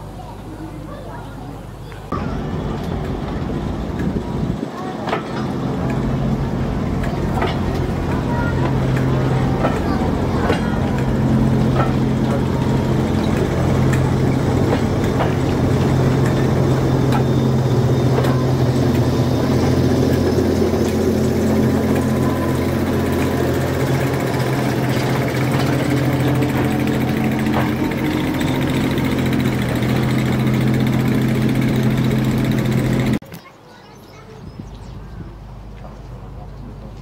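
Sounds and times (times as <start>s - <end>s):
diesel engine running at low revs: 2.1s - 33.2s.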